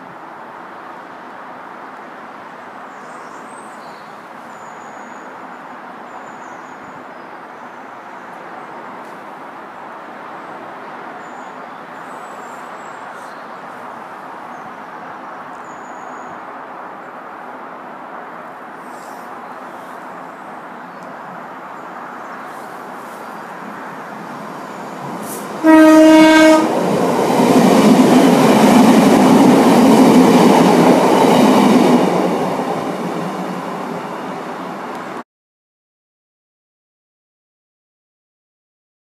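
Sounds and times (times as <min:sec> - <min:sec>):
distant rumble of vehicles: 0:00.0 - 0:35.2.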